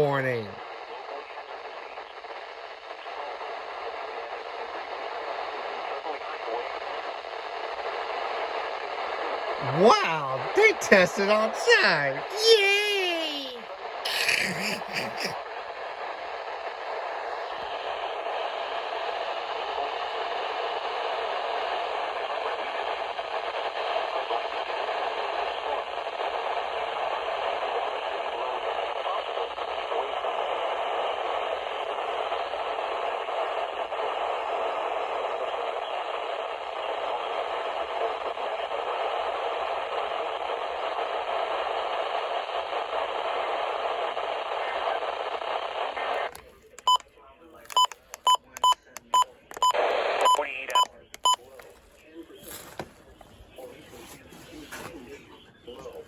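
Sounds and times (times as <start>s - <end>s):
radio crackling burst: 0.0s - 56.0s
radio static hiss: 0.0s - 56.0s.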